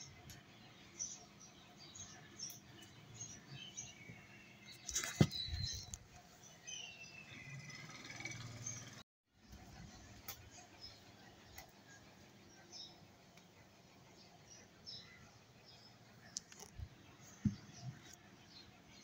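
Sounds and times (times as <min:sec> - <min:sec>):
small birds chirping: 0:00.0 - 0:09.0, 0:09.6 - 0:19.0.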